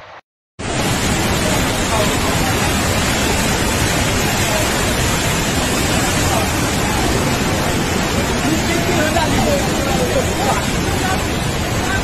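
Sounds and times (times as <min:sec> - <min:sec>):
floodwater torrent rushing: 0:00.6 - 0:12.0
faint voices: 0:01.2 - 0:12.0.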